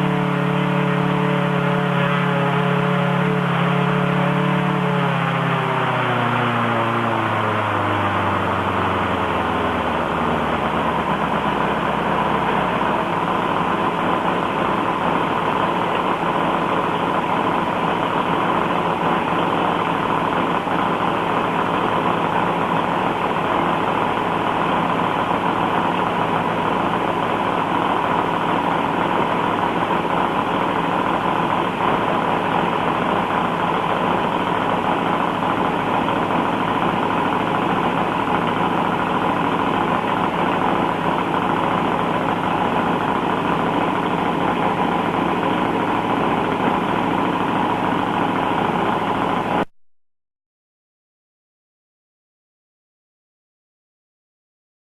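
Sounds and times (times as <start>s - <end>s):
radial engine running: 0.0s - 49.7s.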